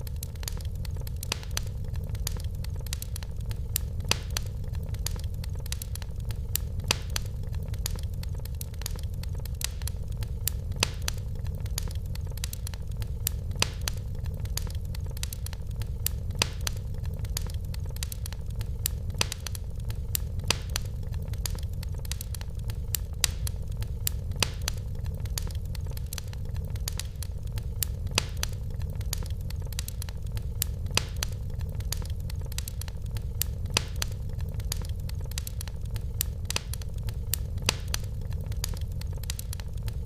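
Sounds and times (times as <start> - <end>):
fire crackling and popping: 0.0 - 40.0
low rumble of flames: 0.0 - 40.0.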